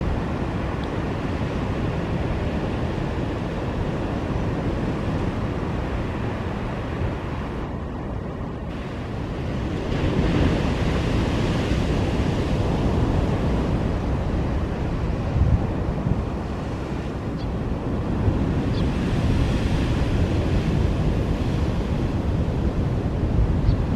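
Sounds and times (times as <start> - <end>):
surf washing on shore: 0.0 - 23.9
wind buffeting microphone: 0.0 - 23.9.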